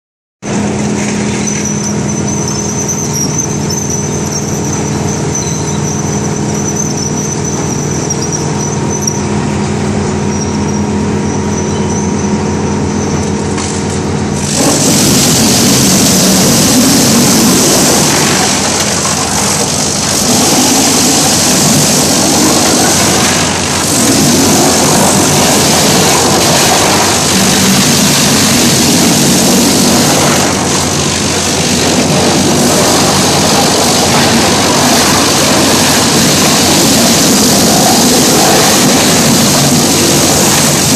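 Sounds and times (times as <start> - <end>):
machinery hum: 0.5 - 40.9.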